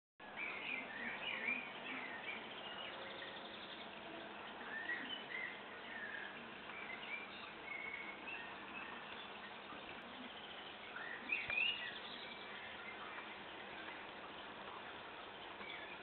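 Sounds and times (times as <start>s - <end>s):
small birds chirping and warbling: 0.2s - 16.0s
steady hiss: 0.2s - 16.0s.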